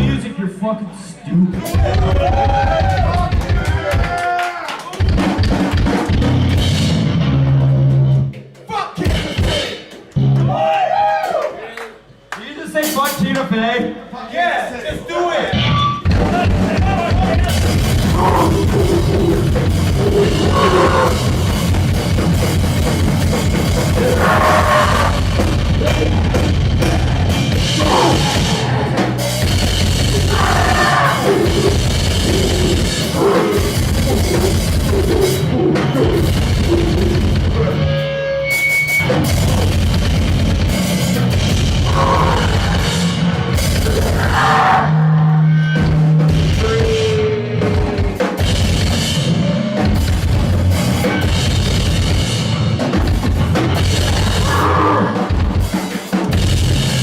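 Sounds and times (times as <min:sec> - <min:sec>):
pounding drum kit: 0:01.5 - 0:10.6, 0:15.5 - 0:57.0.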